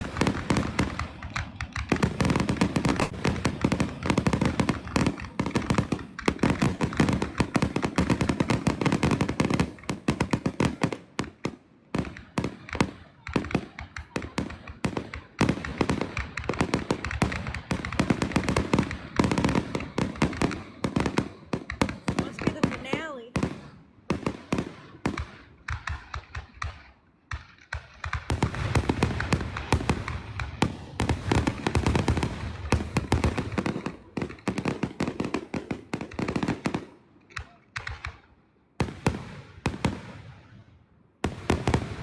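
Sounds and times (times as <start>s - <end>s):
fireworks crackling and popping: 0.0s - 42.0s.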